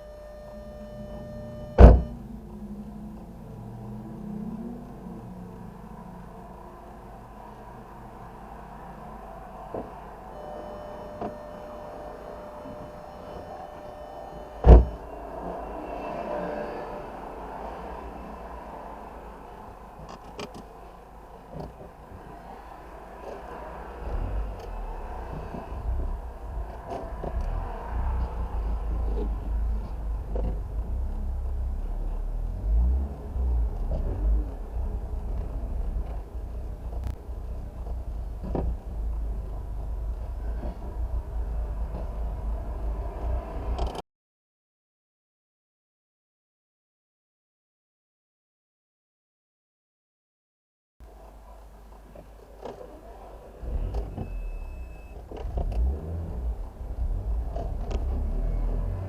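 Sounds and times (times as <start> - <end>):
car engine rumbling: 0.0 - 44.0, 51.0 - 59.0.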